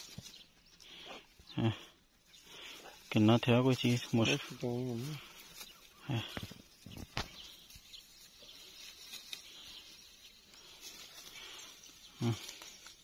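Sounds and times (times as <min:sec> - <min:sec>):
dry brush crackling underfoot: 0:00.0 - 0:13.0.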